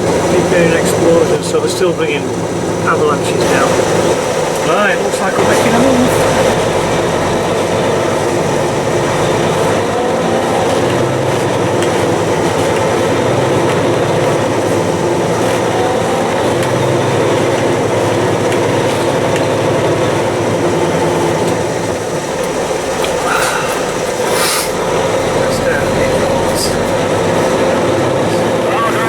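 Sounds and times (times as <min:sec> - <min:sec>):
truck diesel engine running: 0:00.0 - 0:29.0.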